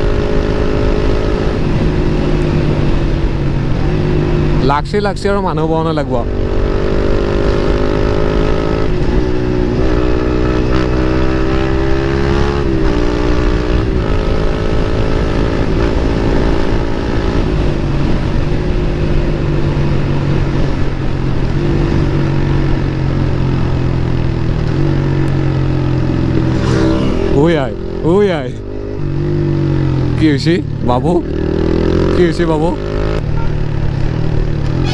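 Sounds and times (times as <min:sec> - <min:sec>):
motorcycle engine at speed: 0:00.0 - 0:34.9.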